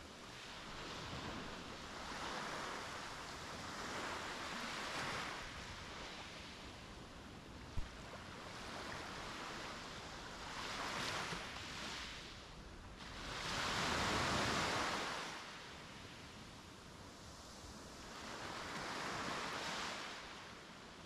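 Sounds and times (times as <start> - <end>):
sea waves breaking on a beach: 0.0 - 21.0.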